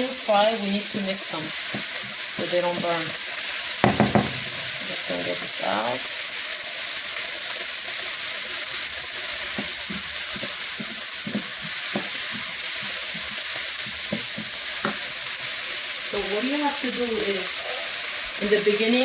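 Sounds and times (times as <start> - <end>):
utensil scraping and knocking wok: 0.0 - 18.4
onions sizzling in hot oil: 0.0 - 19.0.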